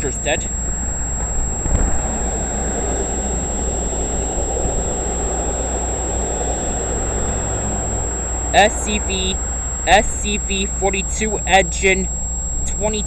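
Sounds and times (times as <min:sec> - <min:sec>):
train passing with low rumble: 0:00.0 - 0:13.0.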